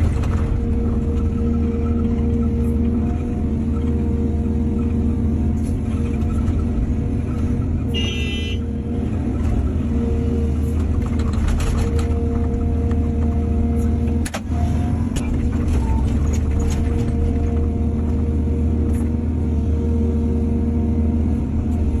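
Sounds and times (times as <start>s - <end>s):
diesel machinery running: 0.0s - 22.0s.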